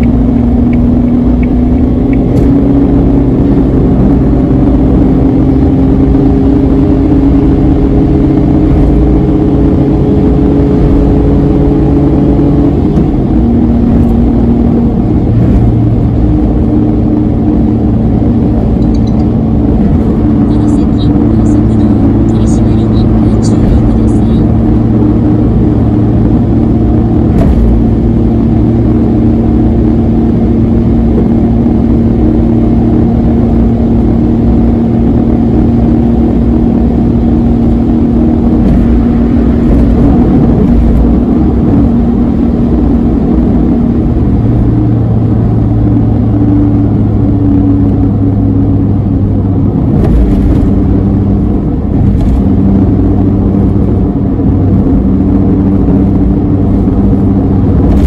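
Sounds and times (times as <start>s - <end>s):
car engine cruising: 0.0s - 58.0s
road and tyre noise: 0.0s - 58.0s.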